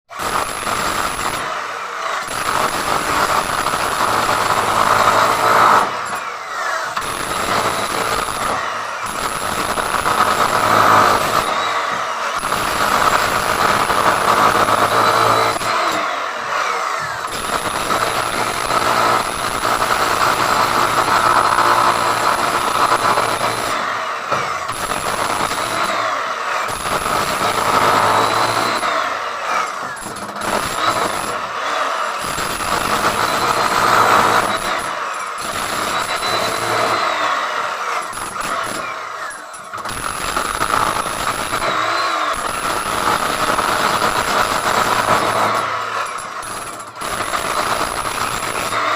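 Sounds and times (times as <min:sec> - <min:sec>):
grinder cutting masonry wall: 0:00.1 - 0:48.9.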